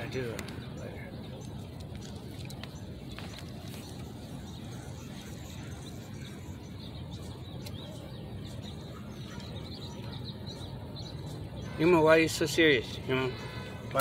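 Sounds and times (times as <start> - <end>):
faint bird chirps: 0.6 - 14.0.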